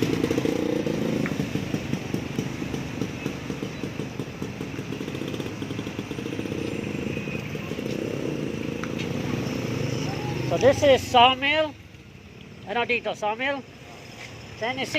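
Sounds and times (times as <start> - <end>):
motorcycle engine running: 0.0 - 12.0
street noise: 0.0 - 14.9.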